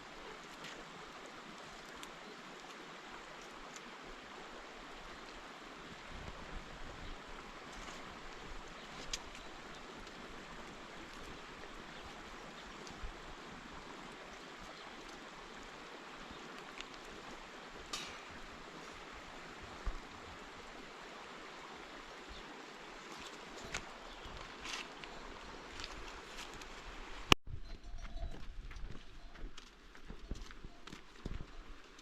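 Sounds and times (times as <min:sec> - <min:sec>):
running water: 0:00.0 - 0:27.4.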